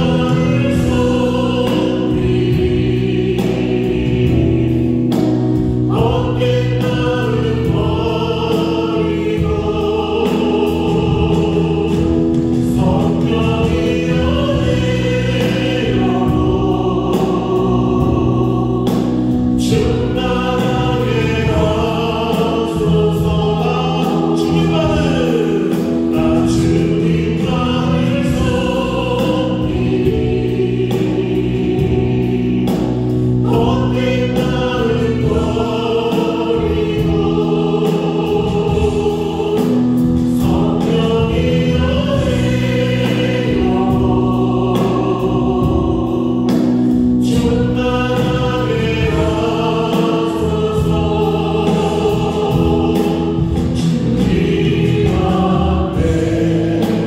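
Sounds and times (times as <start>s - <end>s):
bass guitar: 0.0s - 57.0s
drums: 0.0s - 57.0s
group singing worship song: 0.0s - 57.0s
keyboard: 0.0s - 57.0s.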